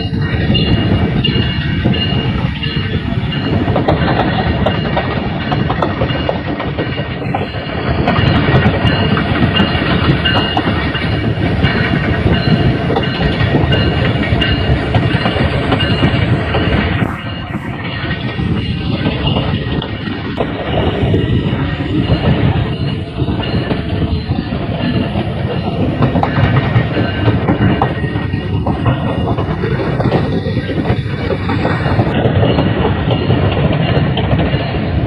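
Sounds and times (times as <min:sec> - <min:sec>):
steel wheels rumbling on rails: 0:00.0 - 0:35.0
wheels knocking on rail joints: 0:00.0 - 0:35.0.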